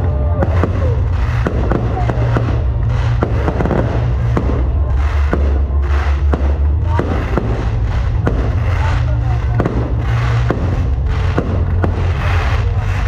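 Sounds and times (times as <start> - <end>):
continuous low rumble: 0.0 - 13.0
firework shells bursting: 0.4 - 13.0.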